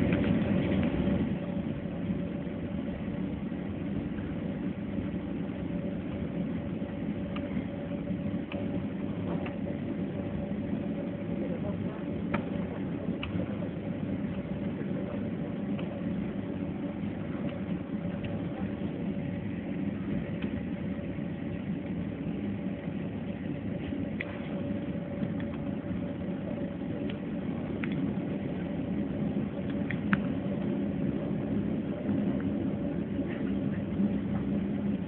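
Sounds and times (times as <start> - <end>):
jet engines droning in cabin: 0.0 - 35.0.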